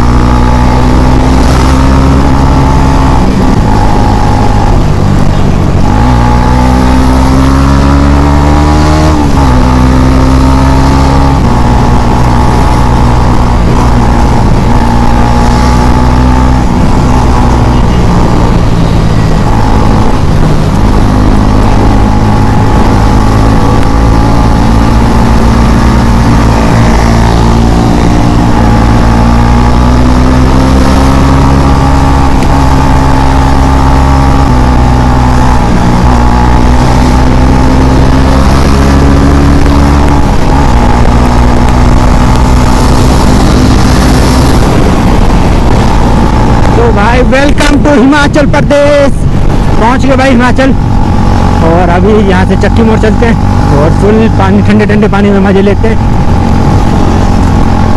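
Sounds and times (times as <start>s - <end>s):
wind noise: 0.0s - 57.9s.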